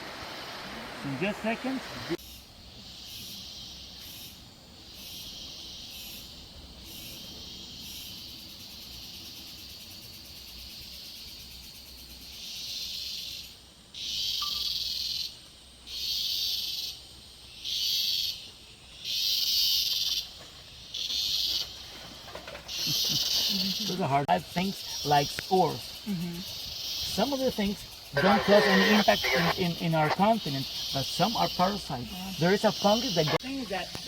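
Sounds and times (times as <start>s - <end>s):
insects buzzing: 0.0s - 34.0s.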